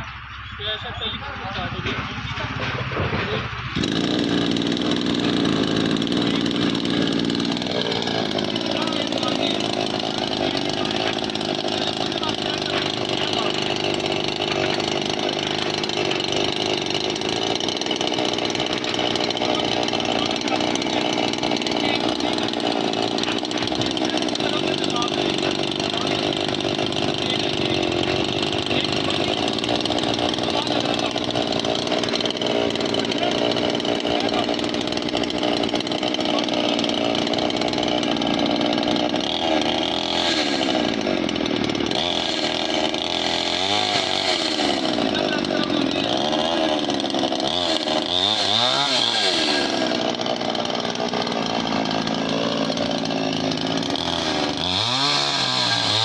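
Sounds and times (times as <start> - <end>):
chainsaw engine revving: 0.8 - 56.0.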